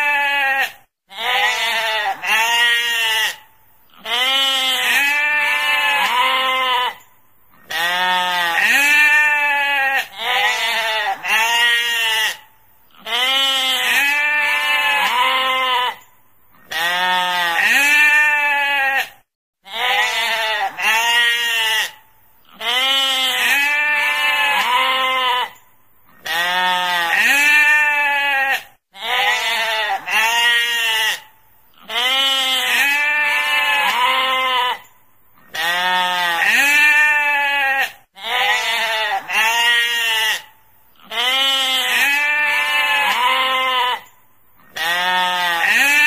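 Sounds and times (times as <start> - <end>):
sheep bleating: 0.0 - 46.0.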